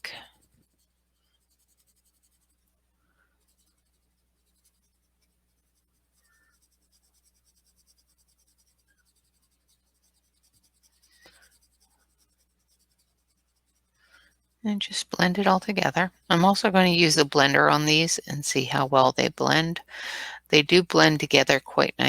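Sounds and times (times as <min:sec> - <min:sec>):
pencil scratching on paper: 0:00.1 - 0:18.0.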